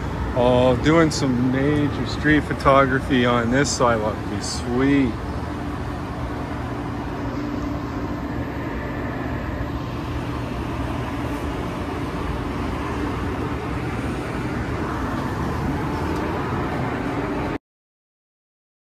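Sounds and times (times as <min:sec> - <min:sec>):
faint steady hum: 0:00.0 - 0:17.6
traffic rumble: 0:00.0 - 0:17.6.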